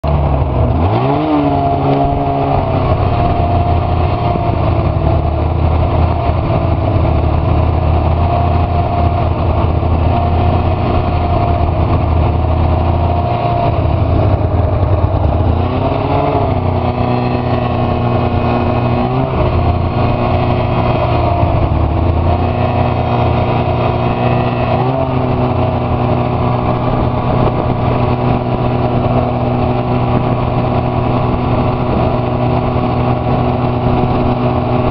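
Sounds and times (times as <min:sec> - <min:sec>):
snowmobile engine revving: 0:00.1 - 0:34.9.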